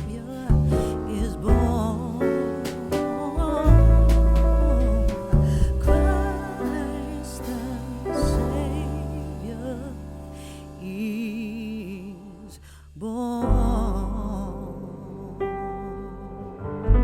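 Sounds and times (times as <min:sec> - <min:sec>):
slow gentle song with vibrato voice: 0:00.0 - 0:17.0.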